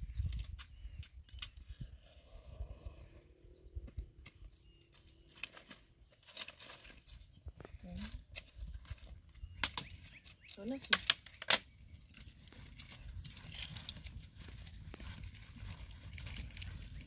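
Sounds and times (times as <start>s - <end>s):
twigs snapping and crackling: 0.0s - 1.6s, 4.2s - 17.0s.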